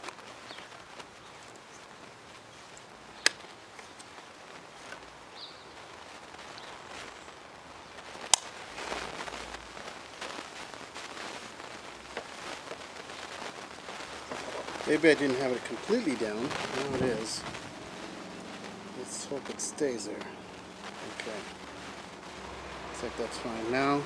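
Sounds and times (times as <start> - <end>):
quiet ticks and rustling: 0.0 - 24.0.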